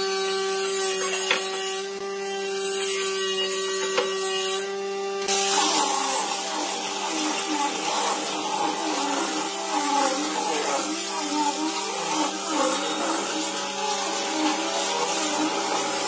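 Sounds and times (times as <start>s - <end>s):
angle grinder whining: 0.0s - 16.0s.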